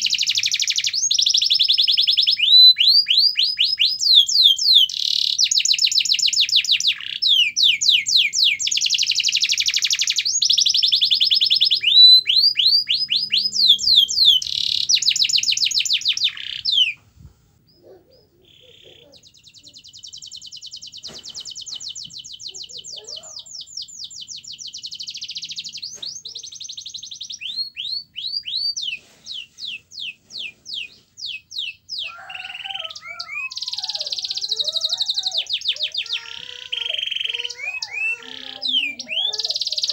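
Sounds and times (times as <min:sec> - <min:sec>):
canary singing trills: 0:00.0 - 0:17.0, 0:17.6 - 0:39.9.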